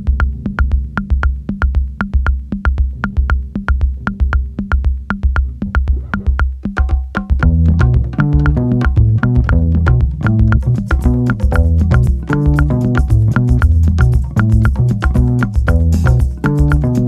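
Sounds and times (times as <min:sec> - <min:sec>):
bass line: 0:00.0 - 0:06.6, 0:07.3 - 0:17.0
drum-machine beat: 0:00.0 - 0:17.0
electronic music: 0:00.0 - 0:17.0.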